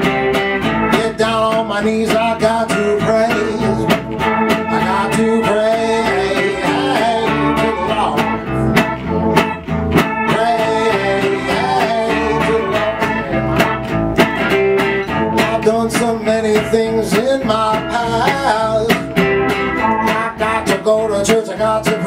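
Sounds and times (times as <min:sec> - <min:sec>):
keyboard: 0:00.0 - 0:22.0
strummed acoustic guitars: 0:00.0 - 0:22.0
person singing: 0:00.9 - 0:13.9, 0:15.2 - 0:19.2, 0:19.8 - 0:22.0.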